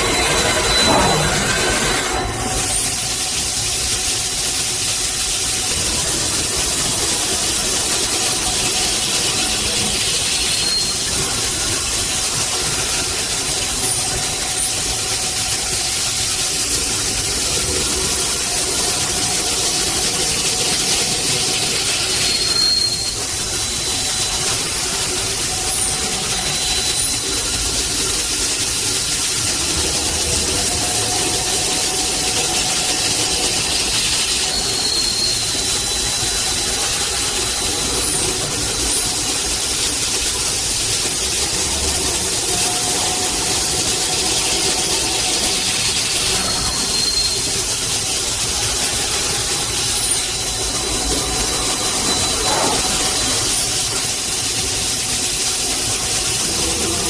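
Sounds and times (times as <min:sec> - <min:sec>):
faint high whine: 0:00.0 - 0:04.4, 0:05.4 - 0:57.0
hiss: 0:00.0 - 0:57.0
industrial machine noise: 0:00.0 - 0:57.0.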